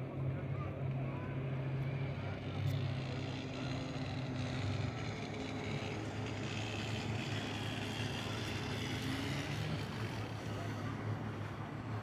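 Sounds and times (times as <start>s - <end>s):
motorboat engine humming: 1.8s - 12.0s.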